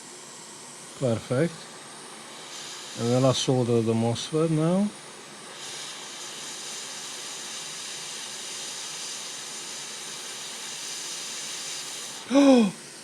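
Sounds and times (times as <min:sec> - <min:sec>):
hot air blower hissing: 0:00.0 - 0:13.0.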